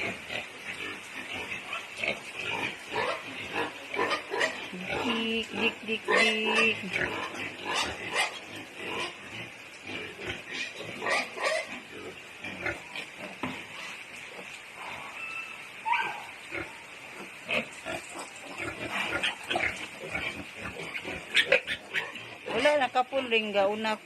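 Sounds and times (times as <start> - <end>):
pigs grunting and squealing: 0.0 - 23.4.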